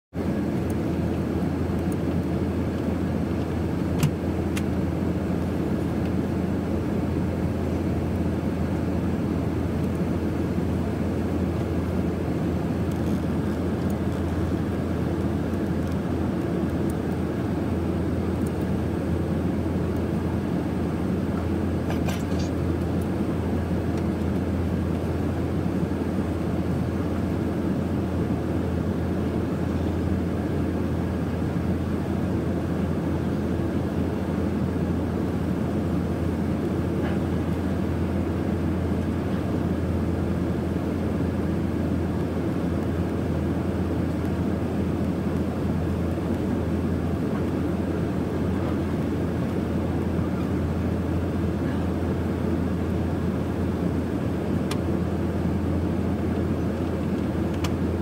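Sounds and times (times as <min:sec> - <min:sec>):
airliner cabin drone: 0:00.2 - 0:58.0.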